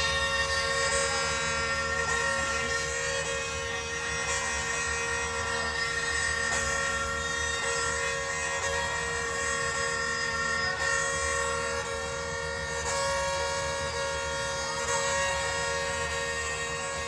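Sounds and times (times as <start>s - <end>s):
drone music with amplified violin: 0.0s - 17.0s.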